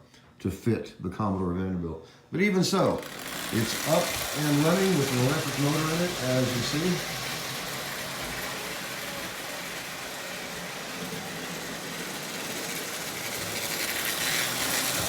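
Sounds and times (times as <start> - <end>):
toy train whirring and rattling: 2.7 - 15.0.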